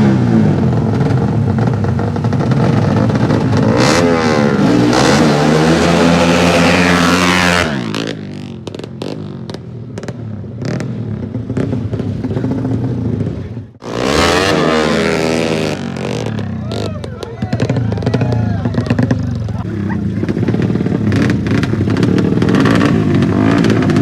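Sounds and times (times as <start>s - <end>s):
racing motorcycle engines revving: 0.0s - 24.0s.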